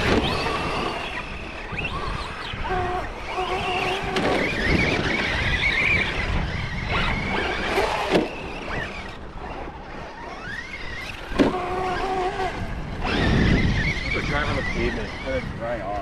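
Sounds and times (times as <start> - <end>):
electric motors whining: 0.0 - 16.0.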